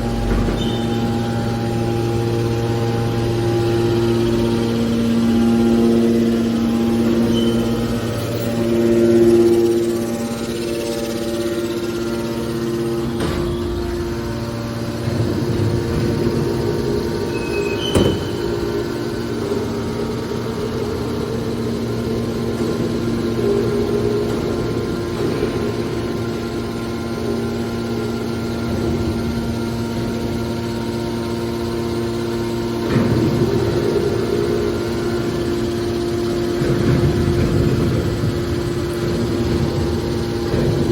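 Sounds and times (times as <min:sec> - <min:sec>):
baler machine hum: 0:00.0 - 0:40.9.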